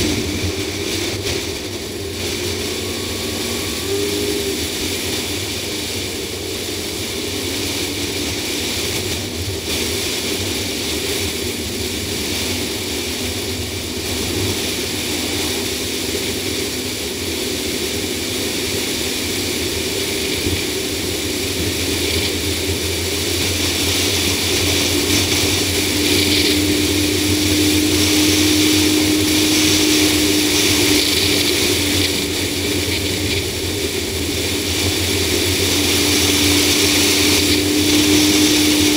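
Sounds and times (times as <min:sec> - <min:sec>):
car engine tone: 0:00.0 - 0:38.9.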